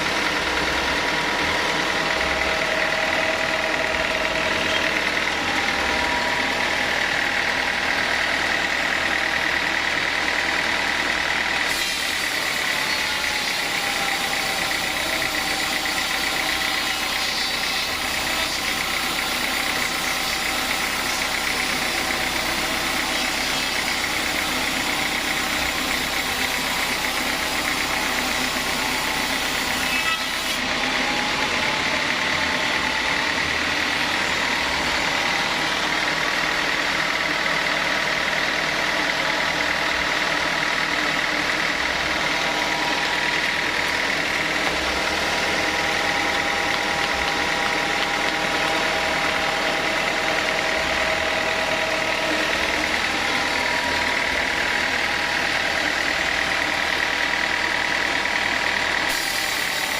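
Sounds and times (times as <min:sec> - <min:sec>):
sawmill saw running: 0:00.0 - 0:59.9.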